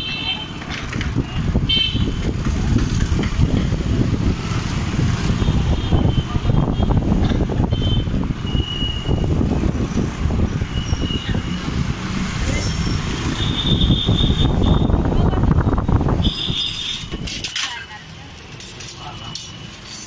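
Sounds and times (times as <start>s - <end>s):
wind buffeting microphone: 0.8s - 17.3s.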